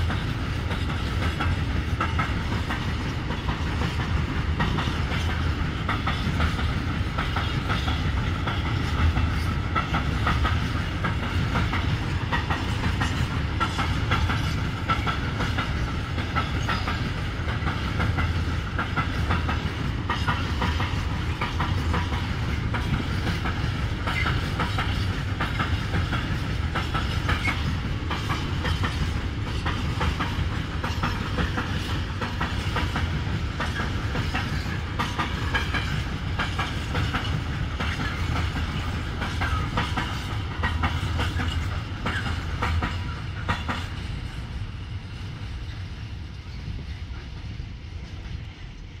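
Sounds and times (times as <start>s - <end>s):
train wheels clacking on rails: 0.0s - 49.0s.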